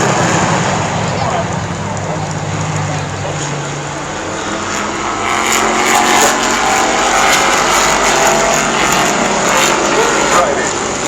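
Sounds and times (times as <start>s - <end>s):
race car engines passing: 0.0s - 11.0s.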